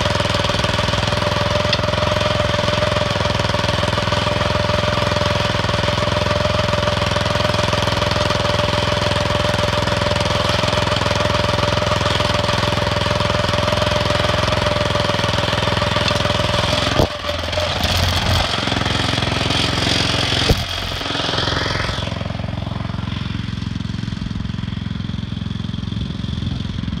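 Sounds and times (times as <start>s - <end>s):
small tractor engine running: 0.0s - 27.0s.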